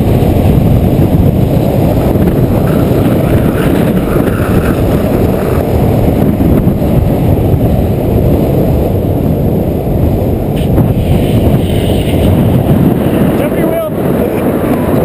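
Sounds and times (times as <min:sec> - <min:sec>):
skateboard wheels rolling on asphalt: 0:00.0 - 0:15.0
wind buffeting microphone: 0:00.0 - 0:15.0.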